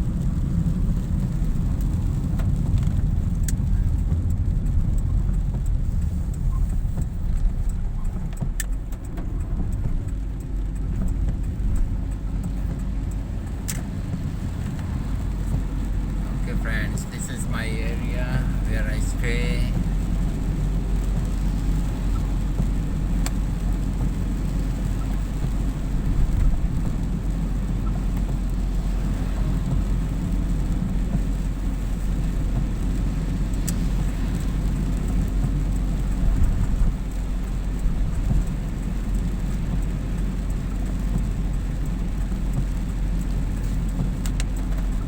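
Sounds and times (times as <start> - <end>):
car interior rumble: 0.0 - 45.0.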